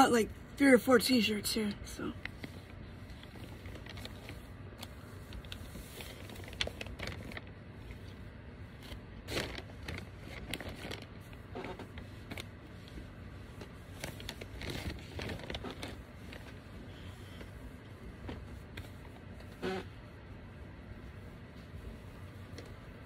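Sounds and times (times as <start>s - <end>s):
fabric rustling: 2.1s - 23.0s.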